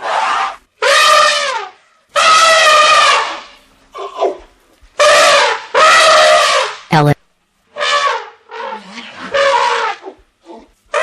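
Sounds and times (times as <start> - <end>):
elephant trumpeting: 0.0 - 6.9, 7.7 - 11.0.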